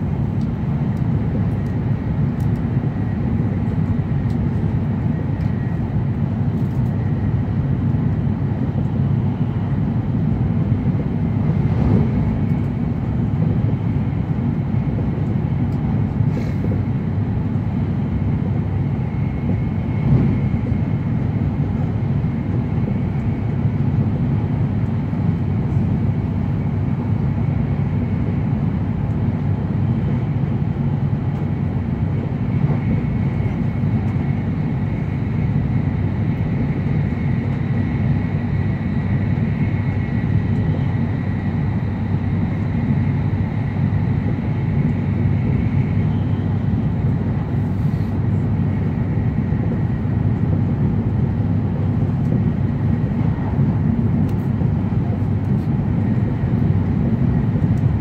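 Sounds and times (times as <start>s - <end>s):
train cabin rumble and rushing: 0.0s - 58.0s.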